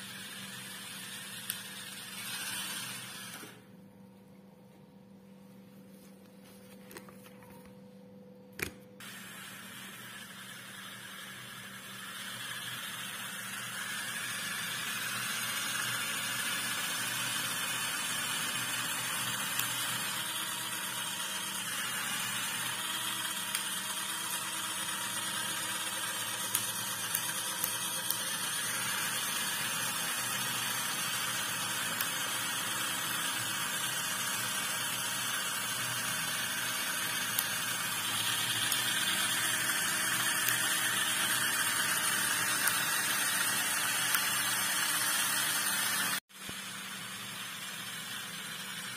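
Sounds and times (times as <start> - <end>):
toy electric motors whirring: 0.0 - 3.6, 9.0 - 48.9.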